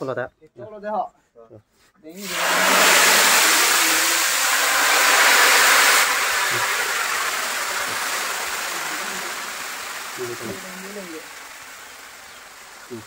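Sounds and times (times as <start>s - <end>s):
hot oil sizzling loudly: 2.2s - 13.0s.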